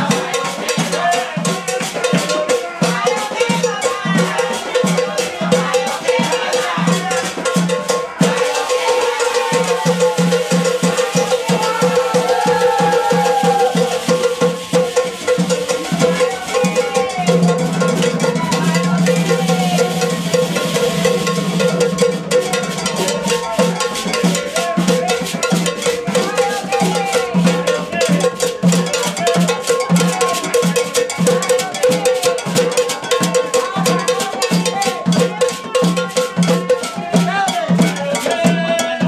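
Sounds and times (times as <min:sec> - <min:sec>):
hand drums and percussion: 0:00.0 - 0:39.0
voices singing: 0:00.0 - 0:39.0.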